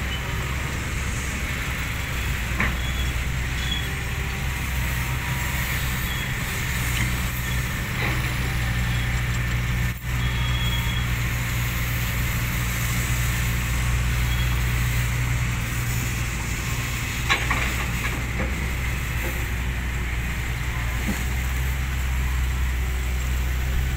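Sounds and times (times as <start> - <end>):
diesel engines running: 0.0 - 23.9.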